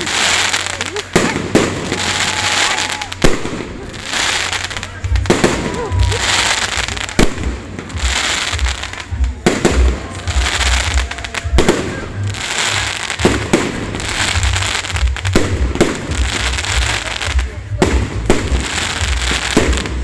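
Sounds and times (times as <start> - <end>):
firework crackling: 0.0 - 20.0.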